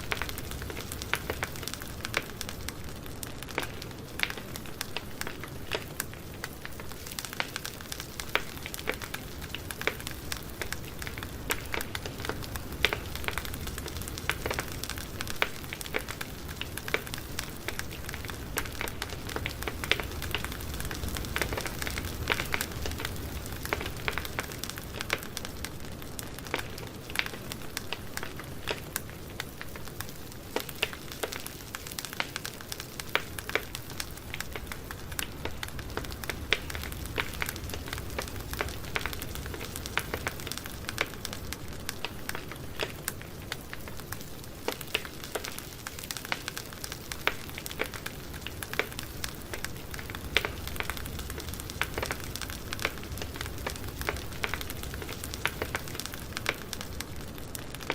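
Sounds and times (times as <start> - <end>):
burning wood crackling: 0.0 - 57.9
campfire flames rumbling: 0.0 - 57.9.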